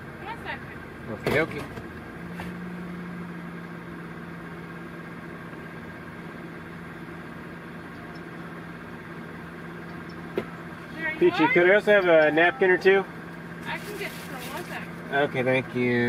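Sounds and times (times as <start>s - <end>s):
steady low hum: 0.0s - 15.8s
car engine idling: 0.0s - 16.0s.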